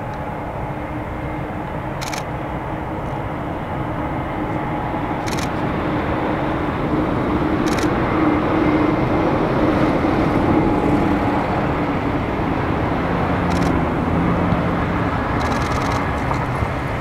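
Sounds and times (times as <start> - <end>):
distant freight train rumble: 0.0 - 17.0
low hum: 0.0 - 17.0.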